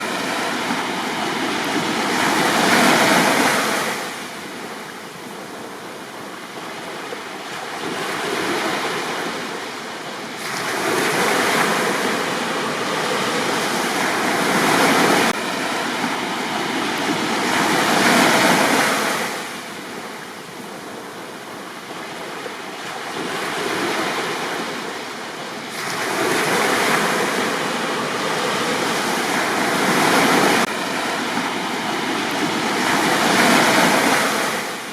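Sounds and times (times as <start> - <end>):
gentle sea waves breaking: 0.0 - 34.9.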